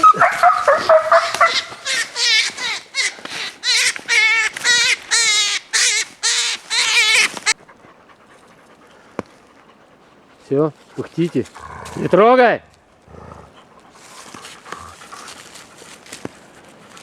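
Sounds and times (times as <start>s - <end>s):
hounds yelping and whining: 0.0s - 15.9s
rustling: 0.5s - 17.0s.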